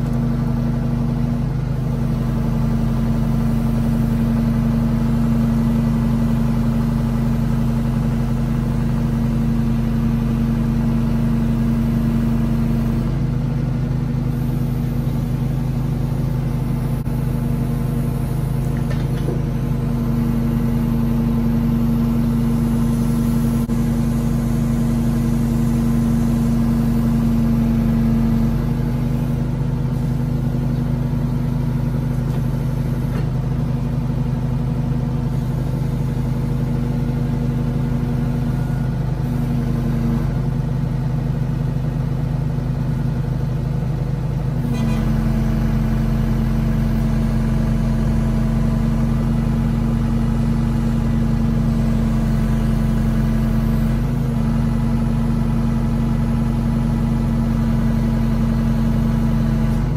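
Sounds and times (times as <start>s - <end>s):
backhoe diesel engine running: 0.0s - 59.9s.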